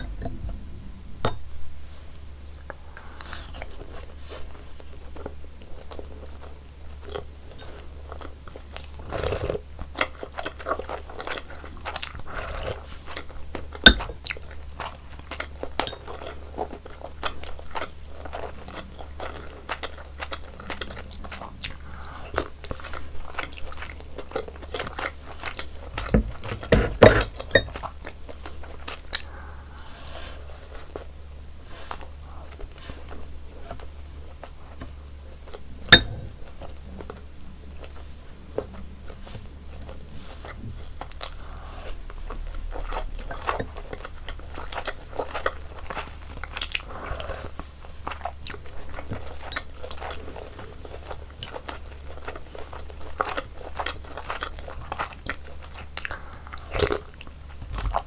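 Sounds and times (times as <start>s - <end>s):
steady low hum: 0.0s - 58.0s
chewing and biting: 2.5s - 58.0s.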